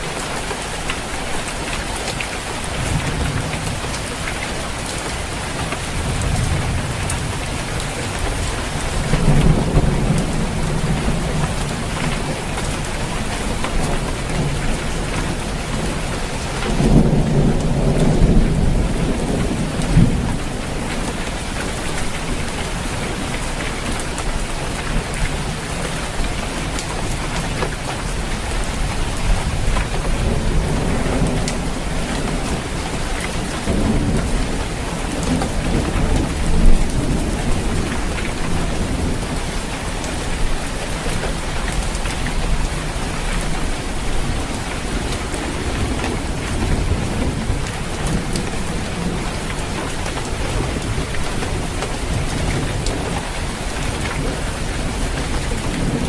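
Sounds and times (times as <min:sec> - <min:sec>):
rain falling on a roof: 0:00.0 - 0:56.0
low rumbles of thunder: 0:02.7 - 0:56.0.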